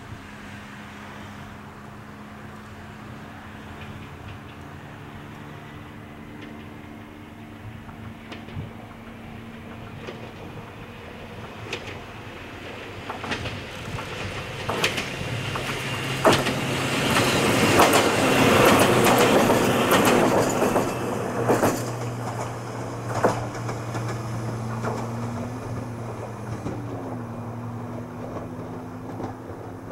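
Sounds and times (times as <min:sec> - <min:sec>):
train wheels clicking over rail joints: 0:02.6 - 0:29.9.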